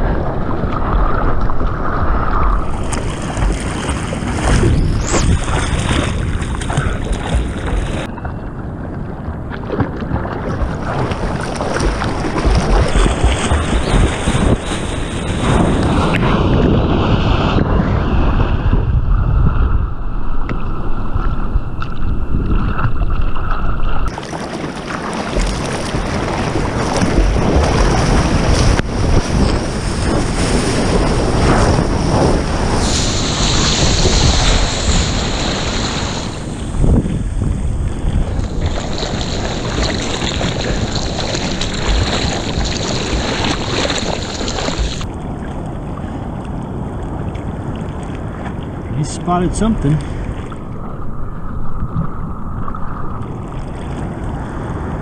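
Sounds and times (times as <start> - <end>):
wind buffeting microphone: 0.0 - 24.1, 25.2 - 55.0
ocean surf rushing and splashing: 0.0 - 55.0.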